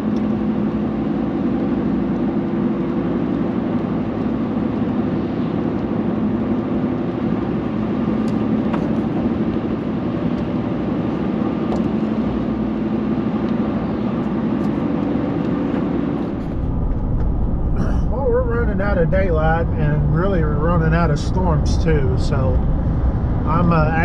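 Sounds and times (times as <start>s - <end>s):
truck cabin road and engine drone: 0.0s - 24.0s.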